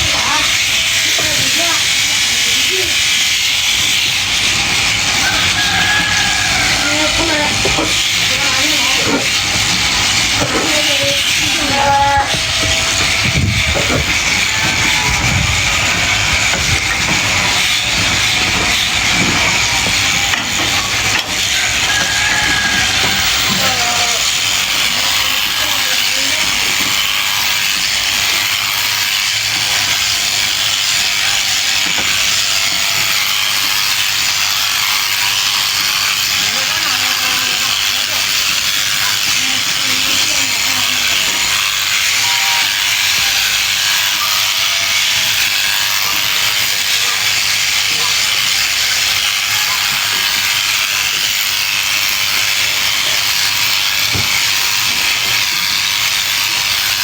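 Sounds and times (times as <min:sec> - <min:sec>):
electric clippers buzzing: 0:00.0 - 0:57.0
sheep shears hissing: 0:00.0 - 0:57.0.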